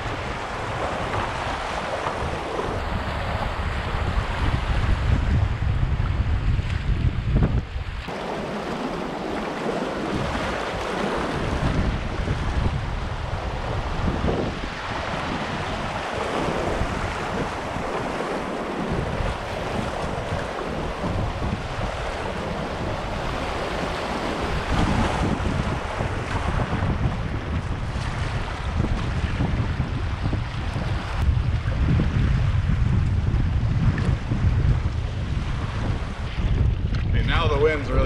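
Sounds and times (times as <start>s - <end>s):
choppy water: 0.0s - 38.0s
wind buffeting microphone: 0.0s - 38.0s.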